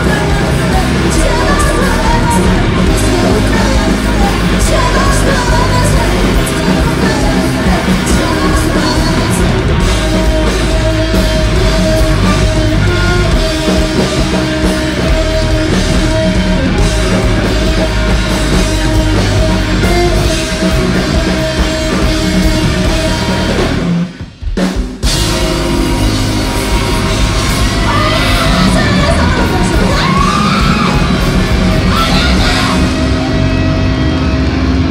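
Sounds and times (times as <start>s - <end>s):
distorted electric guitar: 0.0s - 34.9s
drum kit: 0.0s - 34.9s.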